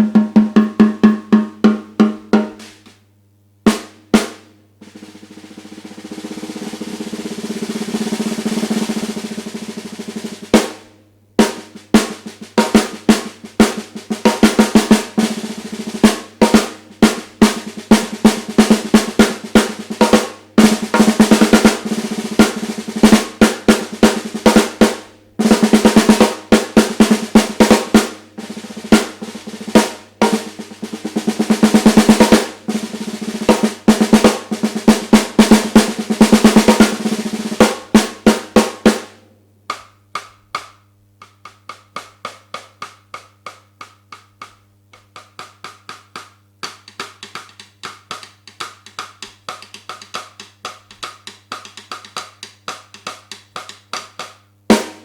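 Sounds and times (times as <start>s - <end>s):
snare drum strokes and rolls: 0.0s - 3.0s, 3.7s - 55.0s.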